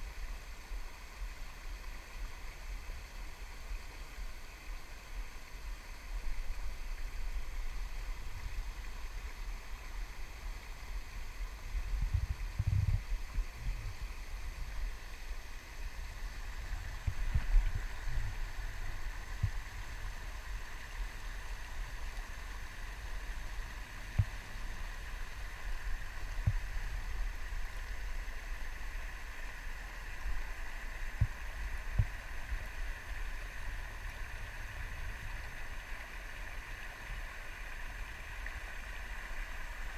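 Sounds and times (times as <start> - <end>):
river water rushing over weir: 0.0 - 39.9.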